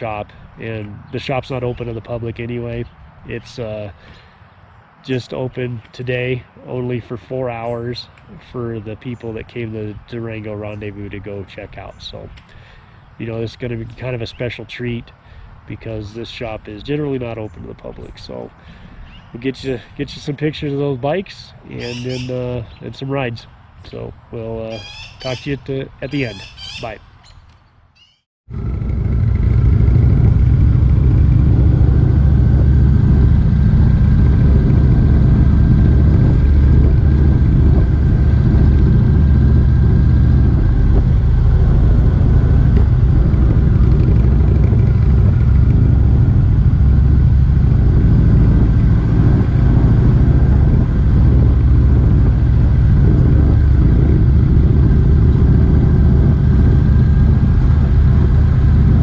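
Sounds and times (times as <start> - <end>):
motorcycle engine rumbling: 0.0 - 27.0, 28.5 - 59.0.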